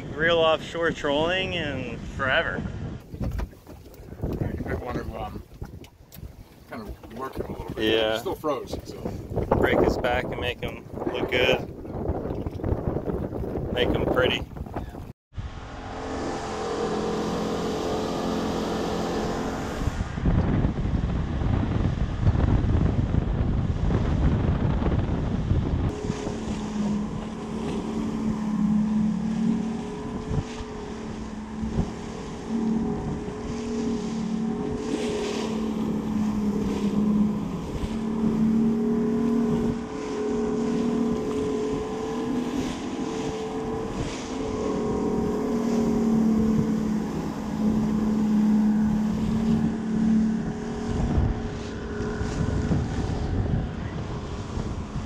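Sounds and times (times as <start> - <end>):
wind on microphone: 0.0 - 15.6, 18.6 - 55.0
outboard motor humming: 0.0 - 55.0
water rushing along hull: 0.0 - 55.0.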